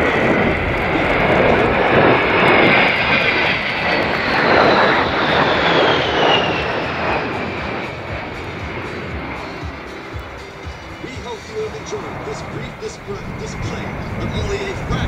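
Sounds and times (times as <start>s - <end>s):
jet roar with high whine: 0.0s - 15.0s.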